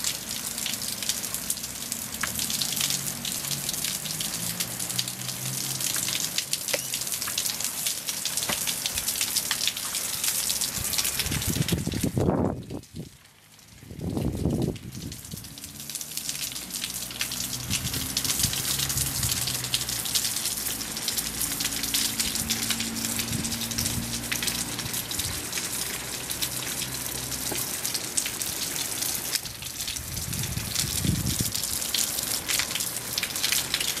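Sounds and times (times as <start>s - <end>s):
heavy rain splashing: 0.0s - 34.0s
water gushing: 0.0s - 34.0s.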